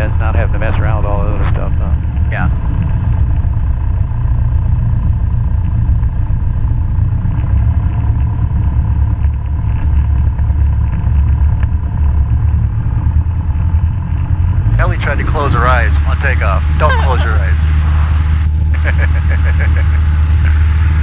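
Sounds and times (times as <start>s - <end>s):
propeller plane engine drone: 0.0s - 21.0s.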